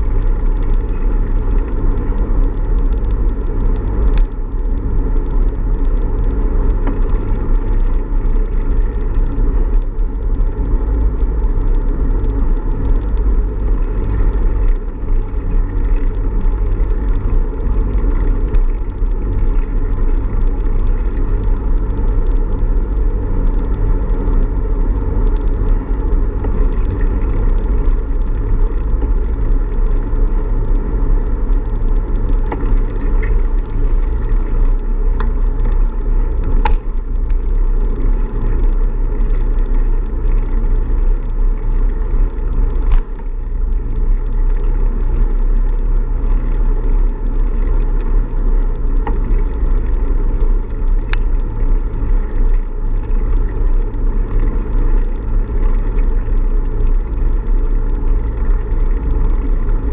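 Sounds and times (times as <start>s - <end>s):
wind and road noise rumble: 0.0s - 59.9s.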